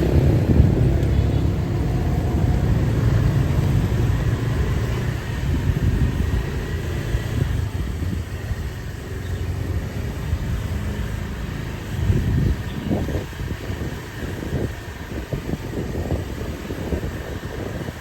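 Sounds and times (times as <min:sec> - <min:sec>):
road traffic rumbling: 0:00.0 - 0:18.0
vehicle engine close: 0:00.0 - 0:18.0.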